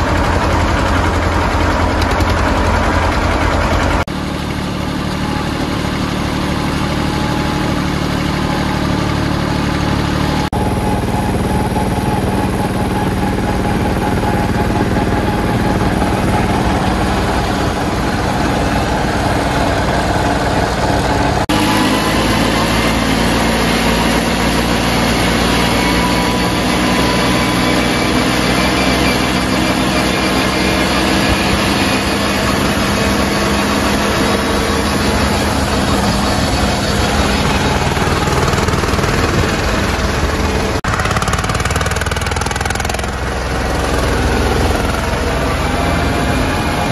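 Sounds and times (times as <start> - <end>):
tractor diesel engines running: 0.0 - 46.9.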